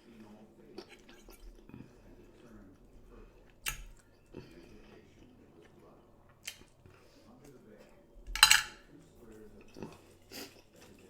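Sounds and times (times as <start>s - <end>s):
wet mouth chewing sounds: 0.0s - 7.6s, 9.6s - 11.0s.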